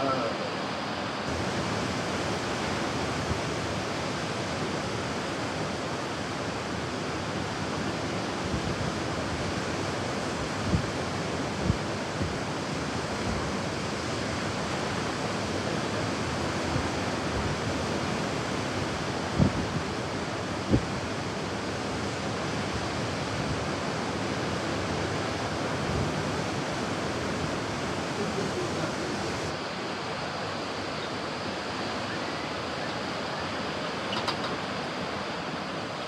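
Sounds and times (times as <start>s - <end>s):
ocean surf roar: 0.0s - 36.0s.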